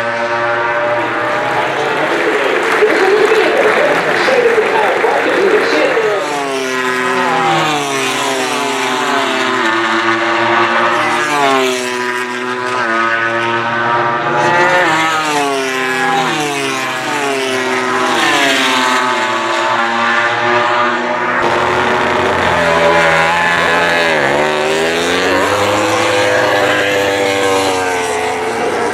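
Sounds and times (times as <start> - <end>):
racing motorcycles passing: 0.0 - 28.9.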